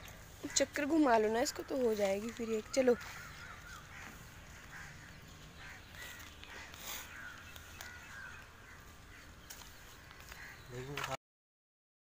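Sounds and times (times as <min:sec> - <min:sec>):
faint bird calls: 0:00.0 - 0:11.0.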